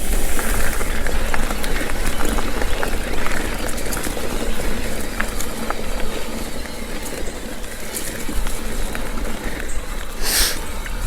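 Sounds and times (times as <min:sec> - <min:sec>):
bike tyres on dirt trail: 0:00.0 - 0:11.0
small ticks and rattles: 0:00.0 - 0:11.0.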